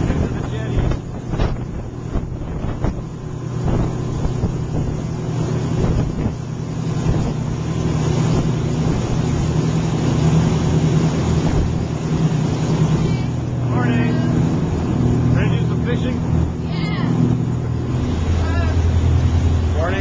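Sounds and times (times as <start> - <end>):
boat engine humming: 0.0 - 20.0
wind buffeting microphone: 0.0 - 20.0.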